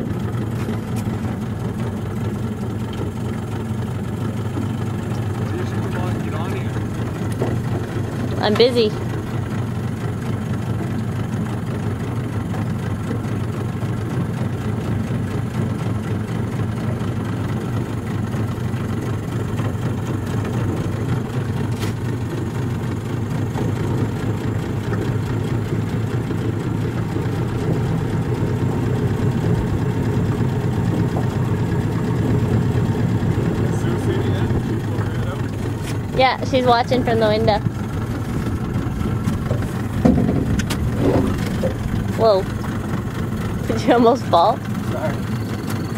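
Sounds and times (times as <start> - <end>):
motorboat engine humming: 0.0 - 45.9.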